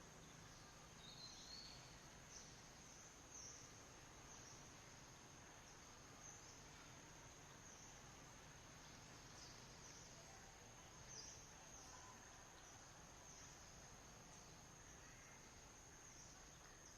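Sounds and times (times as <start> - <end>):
insect drone: 0.0 - 16.9.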